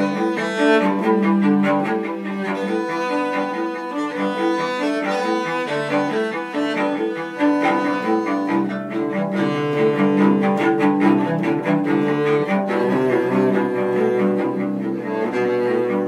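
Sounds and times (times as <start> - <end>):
cello bowed notes: 0.0 - 16.0.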